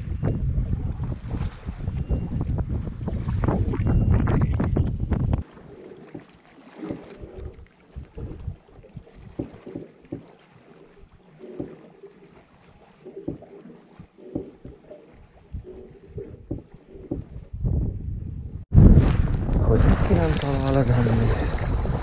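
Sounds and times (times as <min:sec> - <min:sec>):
water sloshing against hull: 0:00.0 - 0:18.7
paddle splashing and knocking: 0:00.2 - 0:18.0.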